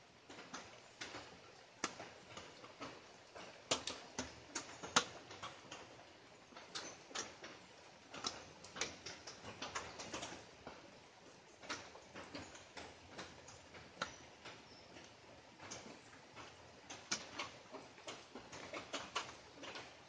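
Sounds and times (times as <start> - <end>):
faint rain hiss: 0.0 - 20.0
raindrops ticking: 0.0 - 20.0.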